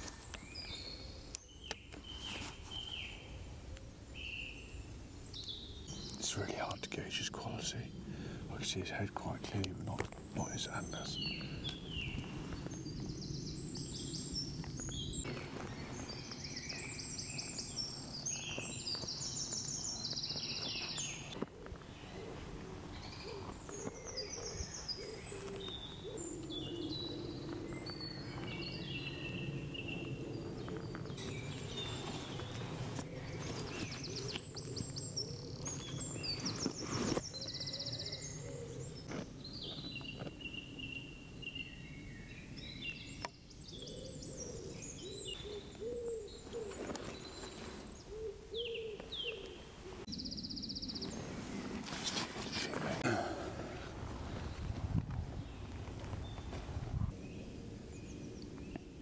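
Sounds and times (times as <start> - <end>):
songbirds whistling and trilling: 0.0 - 53.0, 54.3 - 59.0
low cooing bird call: 10.4 - 59.0.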